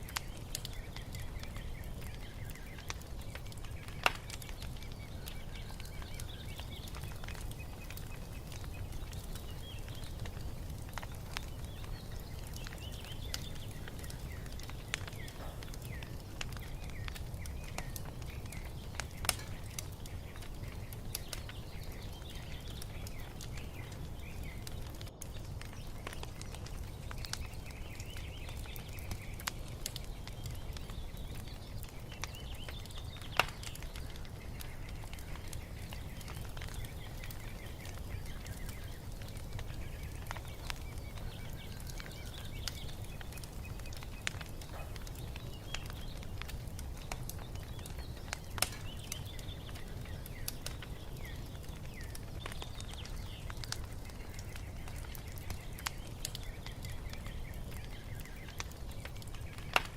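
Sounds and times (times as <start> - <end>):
small birds chirping: 0.0 - 59.9
wood fire crackling: 0.0 - 59.9.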